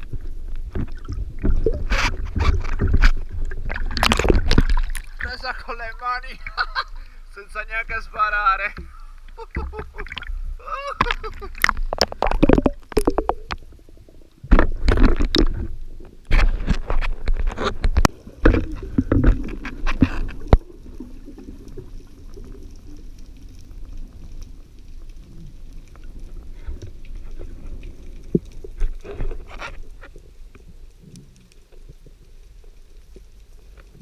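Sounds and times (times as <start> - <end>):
water splashing and gurgling: 0.0 - 7.2, 8.8 - 34.0
low rumble of water: 0.0 - 7.3, 8.6 - 34.0.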